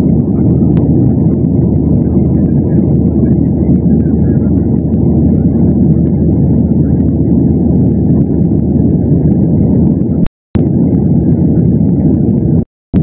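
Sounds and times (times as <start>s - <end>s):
constant low hum: 0.0s - 13.0s
jet engines rumbling: 0.0s - 13.0s.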